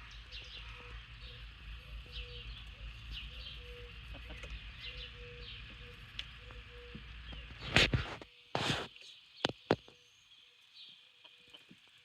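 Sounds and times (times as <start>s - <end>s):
chickens peeping and chirping: 0.0s - 12.0s.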